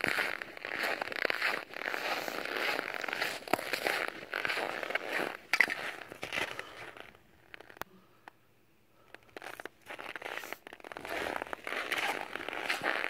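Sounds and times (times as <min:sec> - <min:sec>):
footsteps crunching on snow: 0:00.0 - 0:07.8, 0:09.1 - 0:13.0.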